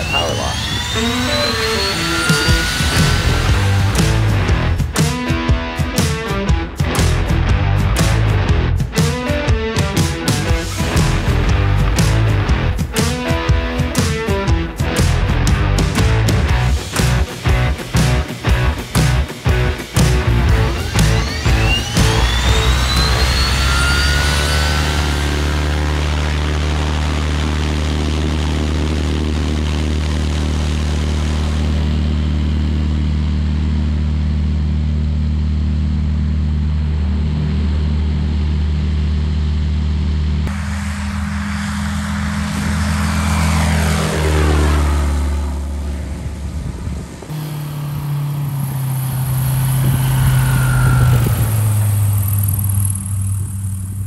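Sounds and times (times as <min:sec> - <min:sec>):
propeller airplane engine: 0:00.0 - 0:54.0.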